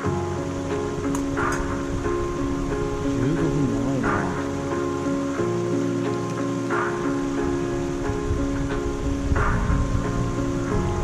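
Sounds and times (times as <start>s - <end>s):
background music with held notes: 0.0s - 11.0s
steady hiss: 0.0s - 11.0s.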